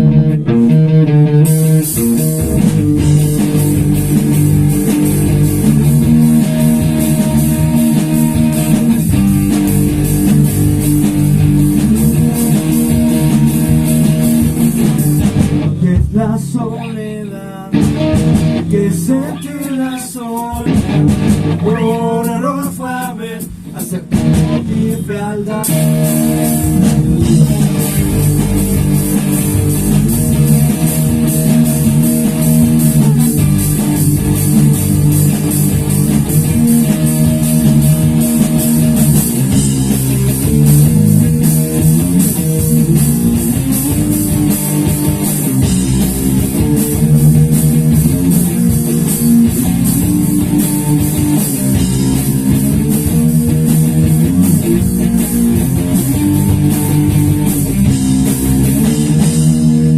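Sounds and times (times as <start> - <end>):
drum kit: 0.0 - 16.5, 17.7 - 59.9
bass guitar: 0.0 - 59.9
guitar chords: 0.0 - 59.9.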